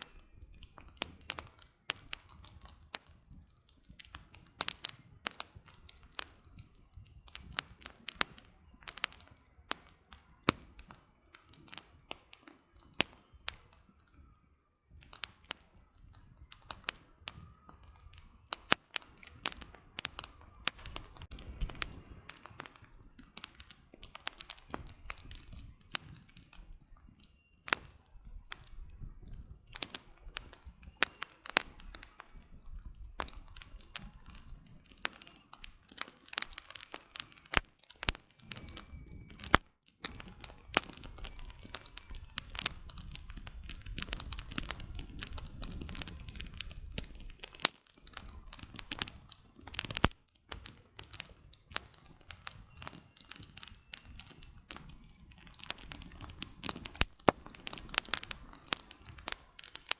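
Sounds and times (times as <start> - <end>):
campfire crackling: 0.0 - 59.9
low rush of flames: 0.0 - 59.9.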